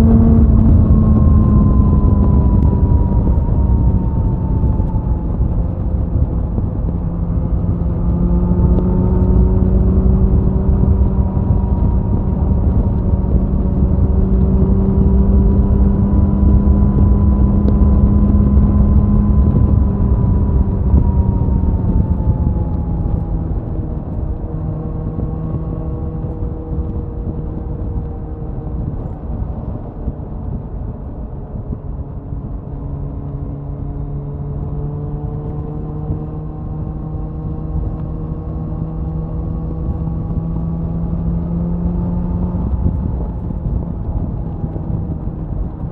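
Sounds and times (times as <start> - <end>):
motorcycle engine cruising: 0.0 - 45.9
wind rushing: 0.0 - 45.9.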